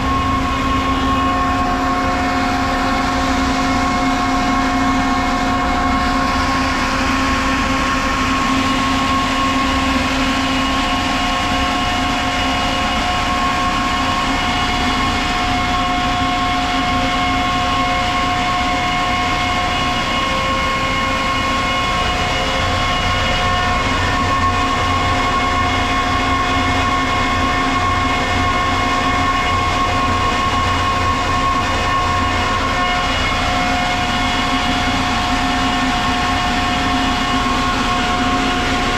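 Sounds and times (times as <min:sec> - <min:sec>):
air compressor droning: 0:00.0 - 0:38.9.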